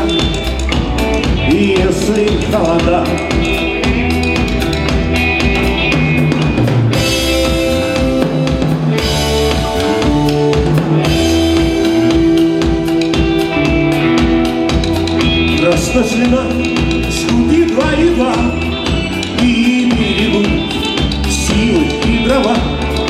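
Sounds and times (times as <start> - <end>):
drum kit beat: 0.0 - 23.0
live rock band playing: 0.0 - 23.0.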